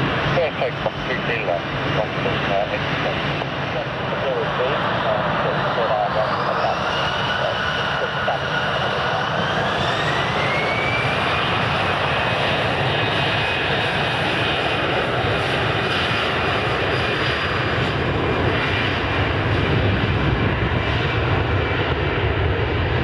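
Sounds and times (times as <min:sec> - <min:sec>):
jet engines roaring with high whine: 0:00.0 - 0:23.0.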